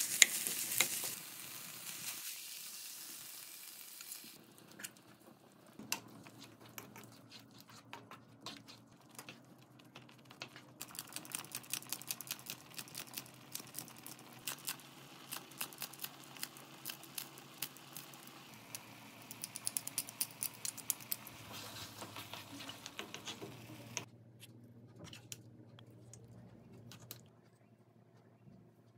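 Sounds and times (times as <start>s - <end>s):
stew simmering in a pan: 0.0s - 24.1s.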